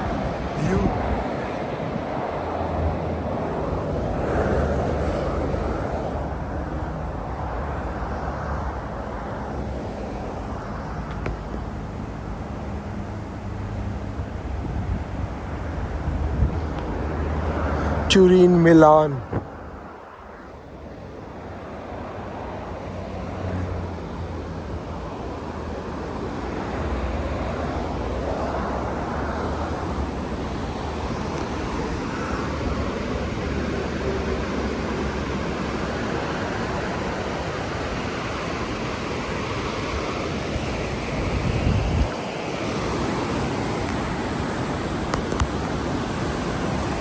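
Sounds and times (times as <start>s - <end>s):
wind on microphone: 0.0s - 9.0s, 14.1s - 18.1s, 19.2s - 47.0s
road traffic rushing: 0.0s - 14.6s, 17.0s - 47.0s.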